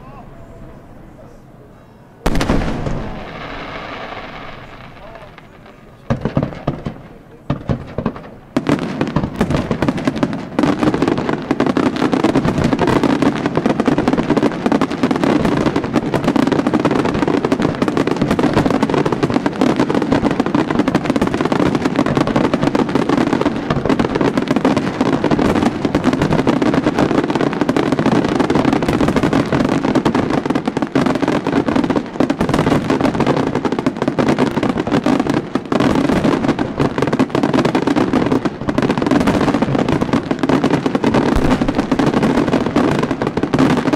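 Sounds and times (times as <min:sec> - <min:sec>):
fireworks bangs and crackle: 0:02.2 - 0:43.9.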